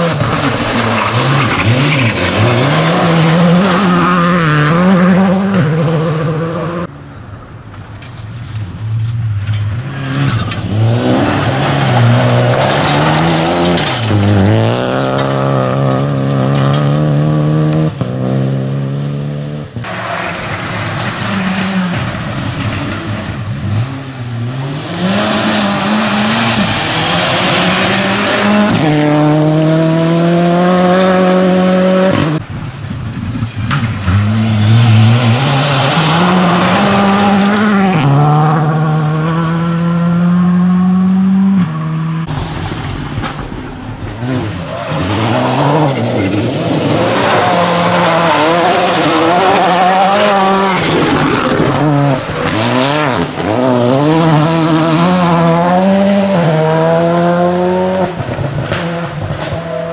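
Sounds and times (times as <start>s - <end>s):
rally car engines revving: 0.0s - 7.3s, 8.0s - 59.9s.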